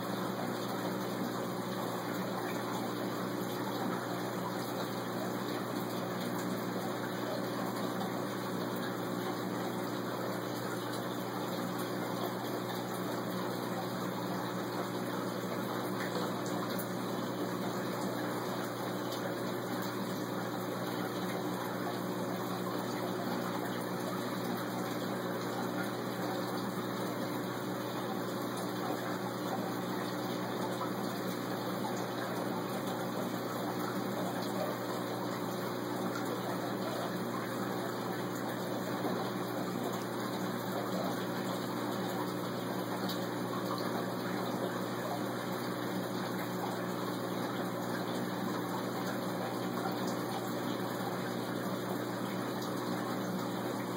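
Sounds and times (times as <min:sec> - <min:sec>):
low pump hum: 0:00.0 - 0:53.9
water circulating in aquarium: 0:00.0 - 0:53.9.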